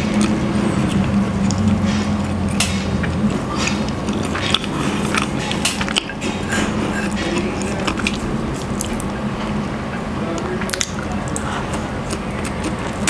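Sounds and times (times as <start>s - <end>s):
wet mouth clicks and smacks: 0.0s - 9.2s, 10.4s - 13.0s
chewing soft bread: 0.0s - 13.0s
low steady hum: 0.0s - 13.0s.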